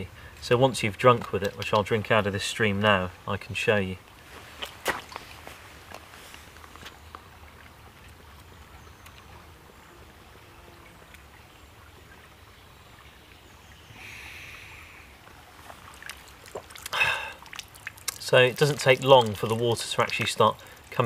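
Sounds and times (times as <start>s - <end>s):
stream trickling over stones: 0.0s - 21.0s.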